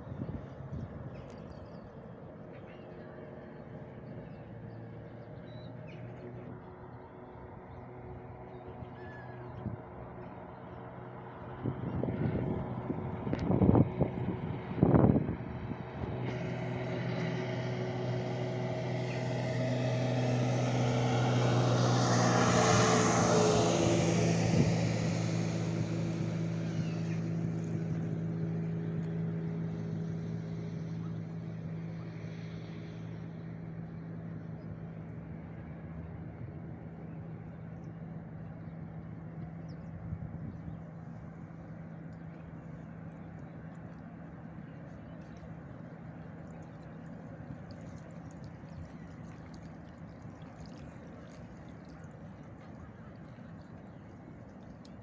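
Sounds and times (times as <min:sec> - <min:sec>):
vehicle engine drone passing: 0:00.0 - 0:55.0.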